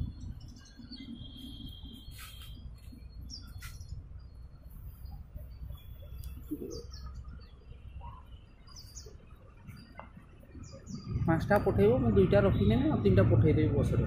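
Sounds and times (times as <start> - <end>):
birds chirping: 0.0 - 14.0
steady low rumble: 0.0 - 14.0.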